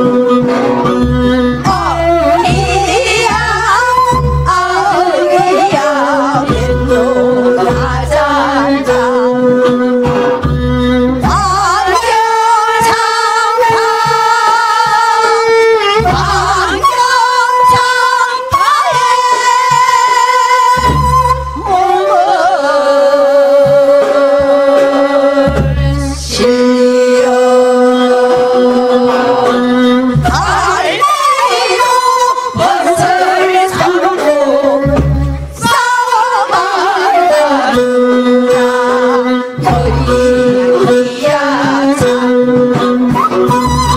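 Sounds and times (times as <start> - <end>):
women singing together: 1.6 - 10.4, 11.2 - 43.9.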